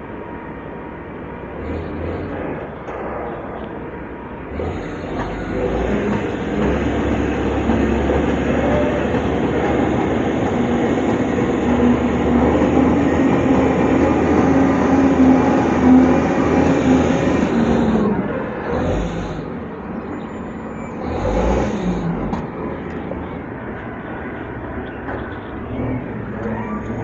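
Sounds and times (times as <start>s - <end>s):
diesel machinery engine rumble: 0.0s - 27.0s.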